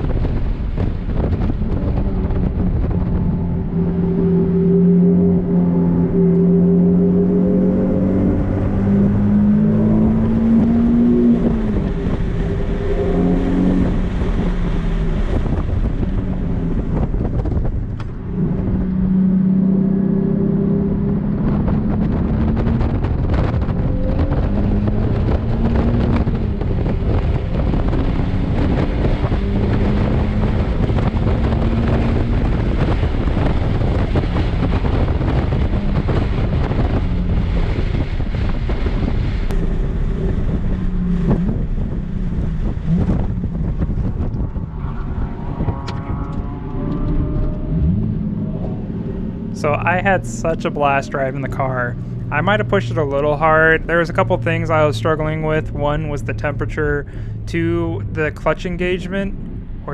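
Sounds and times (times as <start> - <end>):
car engine revving at speed: 0.0 - 59.9
wind buffeting microphone: 0.0 - 59.9.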